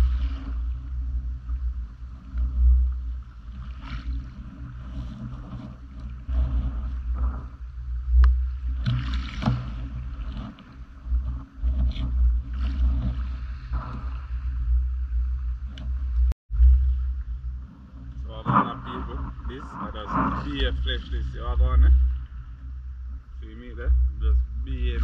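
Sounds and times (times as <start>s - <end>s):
gentle water on pebble shore: 0.0s - 25.0s
wind rumble on microphone: 0.0s - 25.0s.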